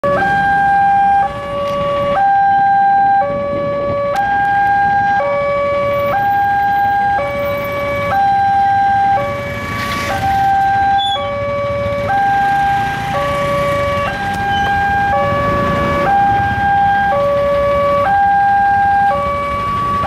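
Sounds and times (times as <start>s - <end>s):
two-tone level crossing alarm: 0.0s - 20.0s.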